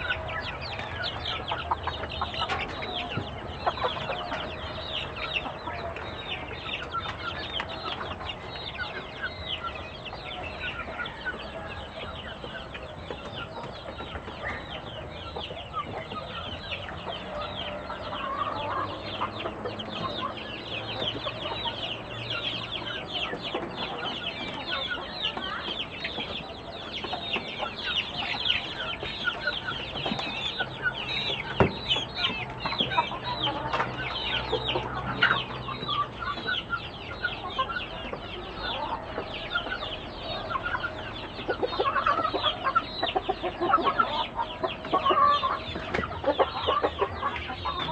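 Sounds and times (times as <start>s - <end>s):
chickens peeping and clucking: 0.0s - 47.9s.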